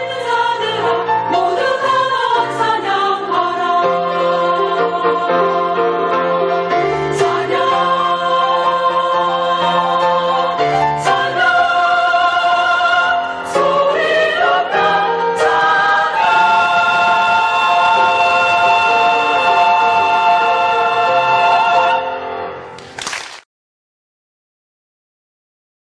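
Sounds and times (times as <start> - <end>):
choir singing a hymn: 0.0 - 22.6.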